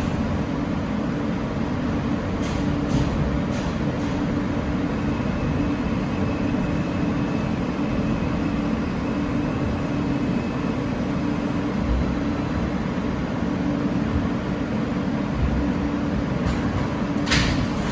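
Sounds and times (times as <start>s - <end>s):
subway car rumble and hiss: 0.0s - 17.9s.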